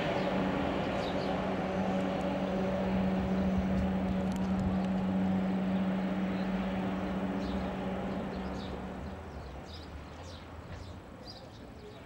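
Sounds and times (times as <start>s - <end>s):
electric train hum: 0.0s - 10.7s.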